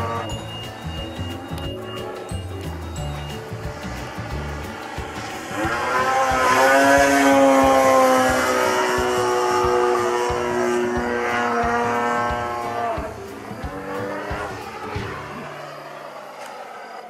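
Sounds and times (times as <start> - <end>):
model airplane engine flying past: 0.0 - 17.0.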